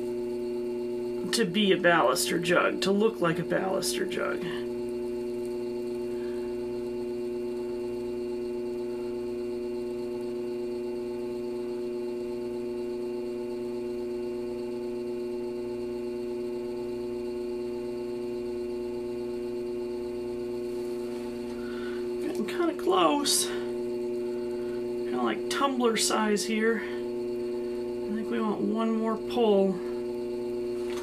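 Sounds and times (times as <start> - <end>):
pottery wheel motor hum: 0.0 - 31.0.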